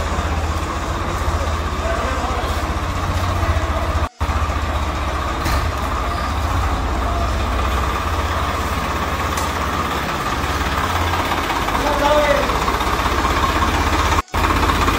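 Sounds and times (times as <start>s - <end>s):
tractor diesel engine idling: 0.0s - 14.9s.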